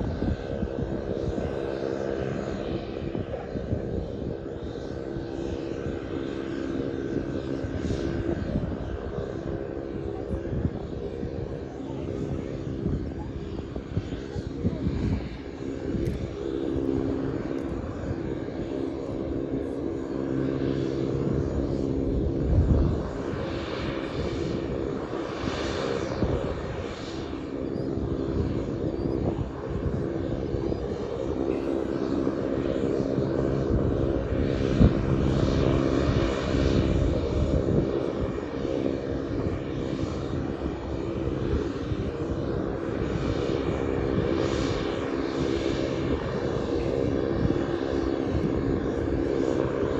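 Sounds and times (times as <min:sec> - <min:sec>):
turboprop engine drone: 0:00.0 - 0:49.9.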